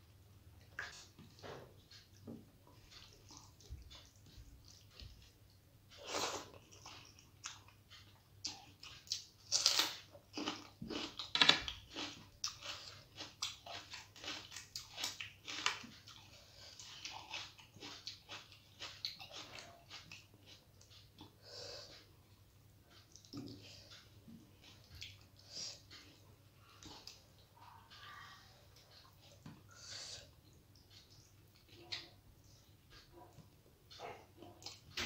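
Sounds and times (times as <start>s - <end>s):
chewing with mouth clicks and smacks: 0.6s - 35.0s.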